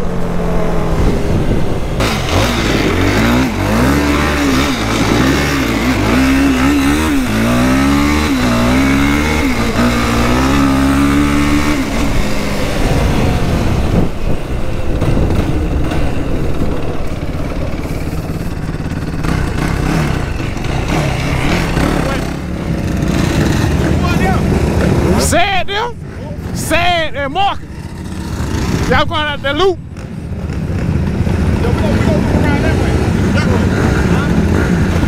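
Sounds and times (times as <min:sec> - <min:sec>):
atv engine revving: 0:00.0 - 0:35.0
rough rushing noise: 0:00.0 - 0:35.0.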